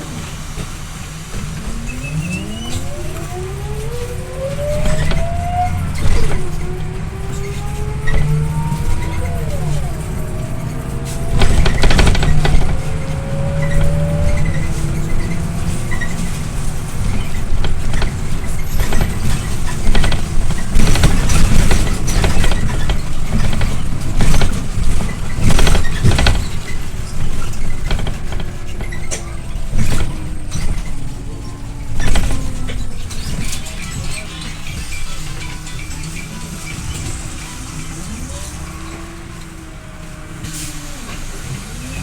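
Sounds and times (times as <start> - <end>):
bus body knocks and rattles: 0.0 - 38.0
bus engine humming: 0.0 - 42.0.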